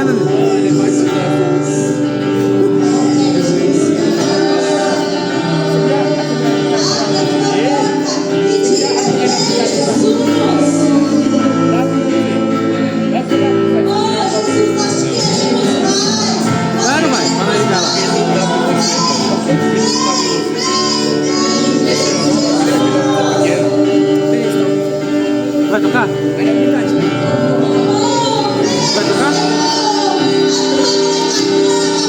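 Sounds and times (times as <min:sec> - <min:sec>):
sustained chords: 0:00.0 - 0:32.0
voices singing worship music: 0:00.0 - 0:32.0.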